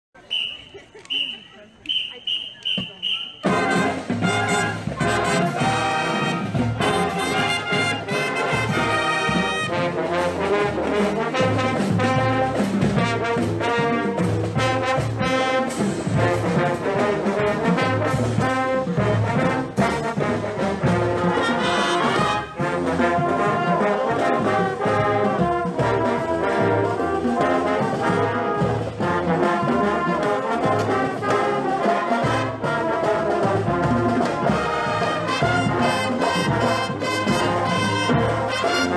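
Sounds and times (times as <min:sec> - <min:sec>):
marching band brass tune: 0:00.2 - 0:38.9
drumline beating: 0:01.2 - 0:38.9.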